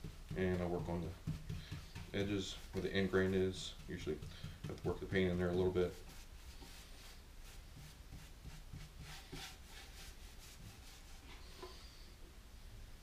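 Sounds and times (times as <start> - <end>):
paintbrush strokes on wood: 0.0 - 12.1.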